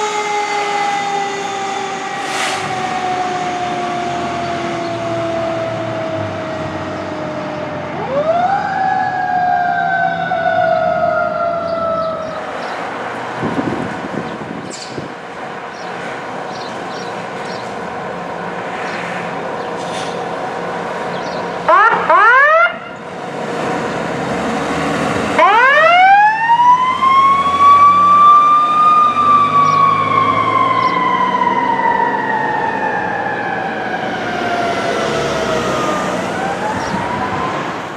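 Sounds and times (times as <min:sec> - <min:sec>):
fire truck siren: 0:00.0 - 0:15.6, 0:20.6 - 0:37.9.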